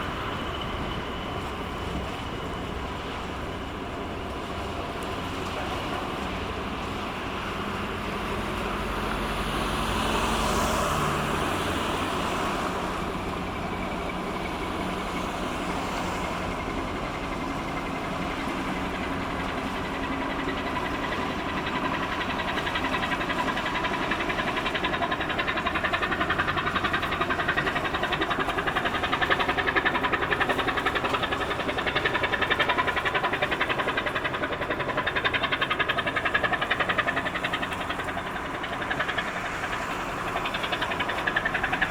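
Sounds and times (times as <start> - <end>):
ship diesel engine chugging: 0.0 - 41.9.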